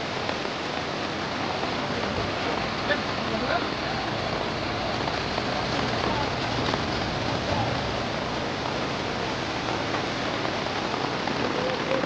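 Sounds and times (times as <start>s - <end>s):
heavy rain: 0.0s - 12.0s
running water: 0.0s - 12.0s.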